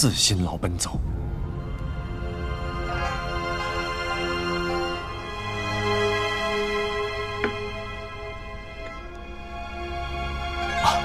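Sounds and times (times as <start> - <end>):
low drone: 0.4 - 11.0
held steady chords: 1.3 - 10.6.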